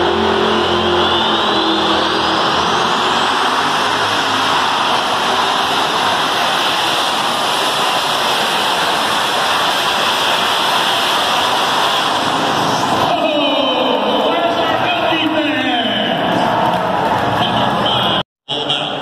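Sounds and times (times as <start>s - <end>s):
high whine: 0.0s - 19.0s
tractor engine roaring: 0.0s - 19.0s.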